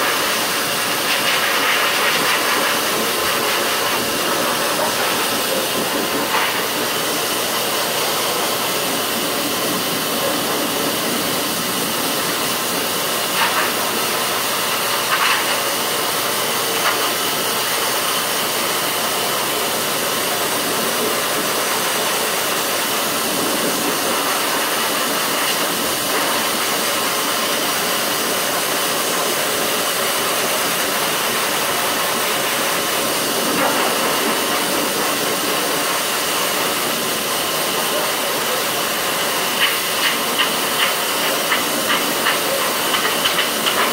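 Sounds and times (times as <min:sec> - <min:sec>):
grooming dryer blowing air: 0:00.0 - 0:43.9.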